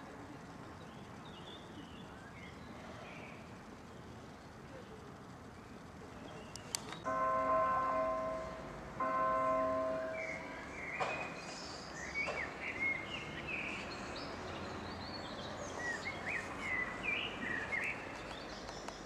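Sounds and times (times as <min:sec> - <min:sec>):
steady outdoor hiss: 0:00.0 - 0:19.0
small birds chirping: 0:00.4 - 0:07.1, 0:10.1 - 0:19.0.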